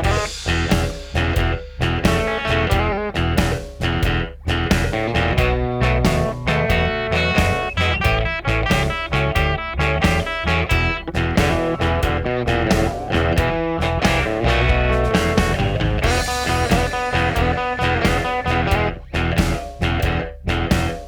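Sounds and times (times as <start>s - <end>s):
bass guitar: 0.0s - 21.0s
plucked electric guitar: 0.0s - 21.0s.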